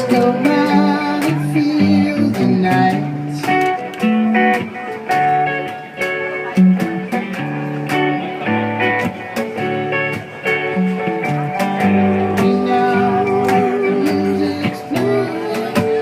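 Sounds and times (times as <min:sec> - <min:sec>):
hand percussion beat: 0:00.0 - 0:16.0
strummed and plucked guitar: 0:00.0 - 0:16.0.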